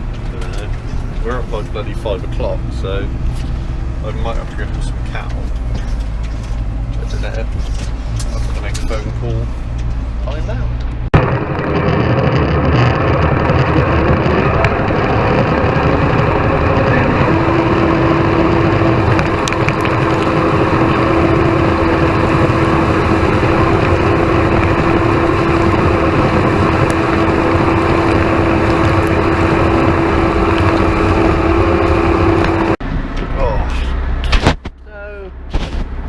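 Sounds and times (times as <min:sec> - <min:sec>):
steady whine: 0:00.0 - 0:35.8
tractor engine running: 0:00.0 - 0:36.0.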